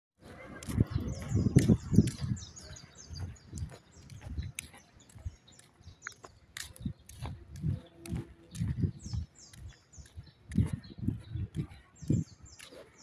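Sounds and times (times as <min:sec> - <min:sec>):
small birds chirping: 0:00.2 - 0:13.0
wind buffeting microphone: 0:00.2 - 0:13.0.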